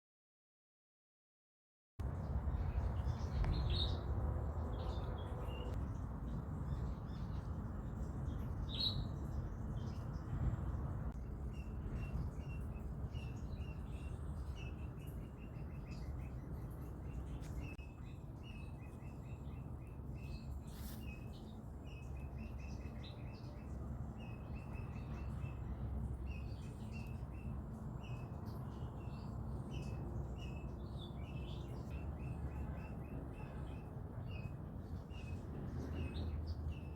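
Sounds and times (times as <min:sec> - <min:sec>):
small birds chirping: 0:02.1 - 0:36.9.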